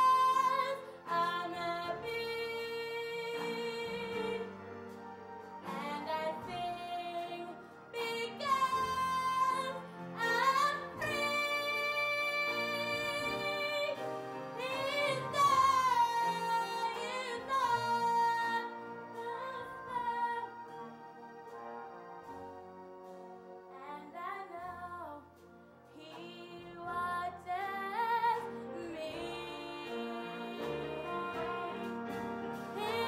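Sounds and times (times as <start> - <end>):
girl singing a hymn: 0.0 - 4.6, 5.7 - 14.0, 14.6 - 20.6, 23.7 - 32.0
piano accompaniment: 0.0 - 33.0.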